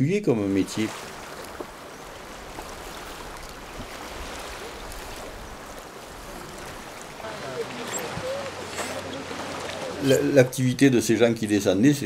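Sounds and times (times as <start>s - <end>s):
fast-flowing river rushing: 0.5s - 10.8s.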